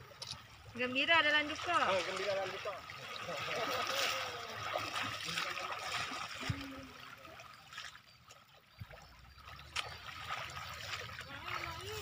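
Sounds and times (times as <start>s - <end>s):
water splashing around wading legs: 0.0s - 12.0s.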